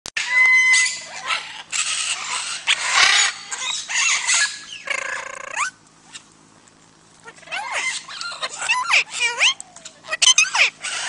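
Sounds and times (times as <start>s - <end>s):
parrots screeching and squawking: 0.2s - 6.2s, 7.2s - 11.0s.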